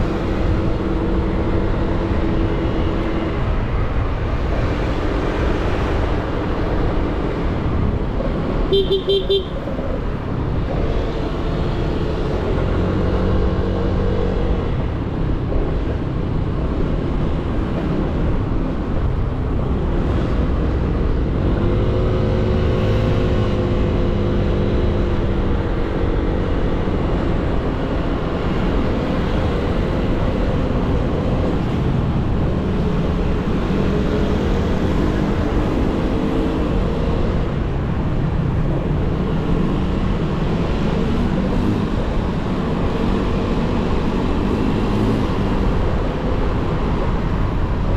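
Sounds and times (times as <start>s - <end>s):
low wind: 0.0s - 47.9s
road rumble: 0.0s - 47.9s.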